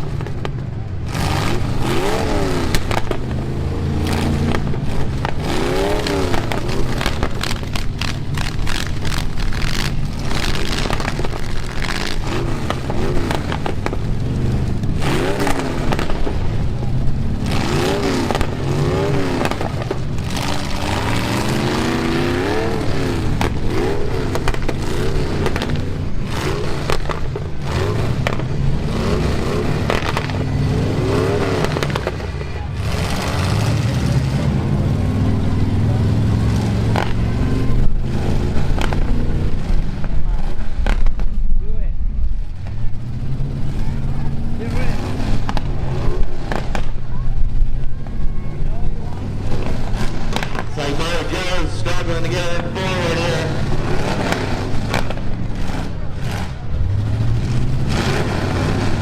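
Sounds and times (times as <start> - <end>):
truck engines revving hard: 0.0 - 59.0
vehicles crunching in collisions: 0.0 - 59.0.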